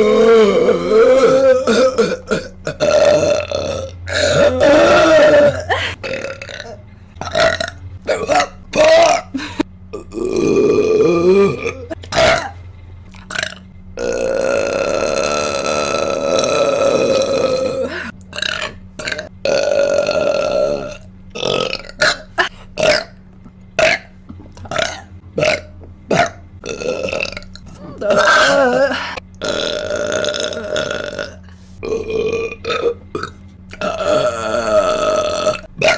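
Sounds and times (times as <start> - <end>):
woman burping: 0.0 - 12.6, 13.2 - 23.1, 23.8 - 35.9.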